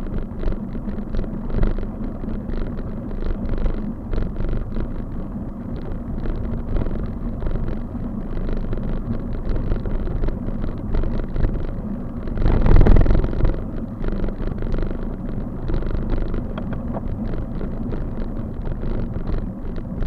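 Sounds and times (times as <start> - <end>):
road rumble: 0.0 - 20.0
wind buffeting microphone: 0.0 - 20.0.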